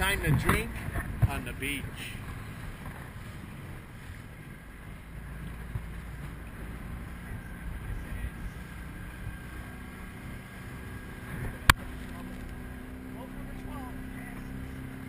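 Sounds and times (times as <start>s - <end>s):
speedboat motor rumble: 0.0s - 15.0s.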